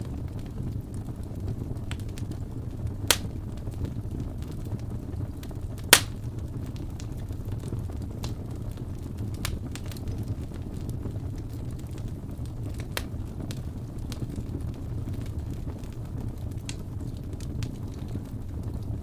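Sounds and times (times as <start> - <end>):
fire crackles and pops: 0.0 - 19.0
fire rumbling in fireplace: 0.0 - 19.0.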